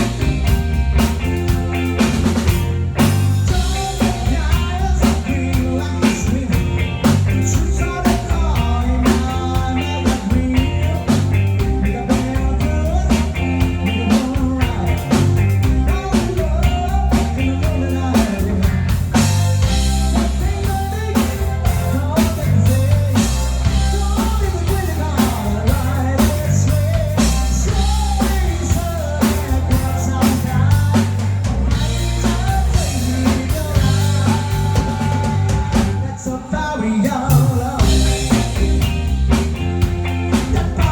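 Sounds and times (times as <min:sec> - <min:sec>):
drum kit beat: 0:00.0 - 0:36.4, 0:37.0 - 0:40.9
electric guitar: 0:00.0 - 0:40.9
person singing: 0:00.0 - 0:40.9.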